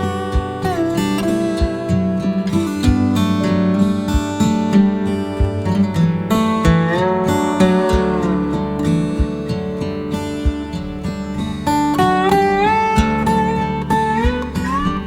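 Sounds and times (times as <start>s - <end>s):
plucked guitar with sliding notes: 0.0s - 15.0s
slow steady beat: 0.0s - 15.0s.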